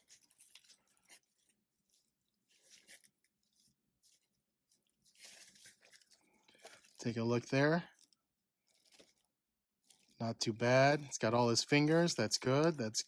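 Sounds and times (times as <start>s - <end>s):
plastic toy rustles and clicks: 0.0s - 13.0s.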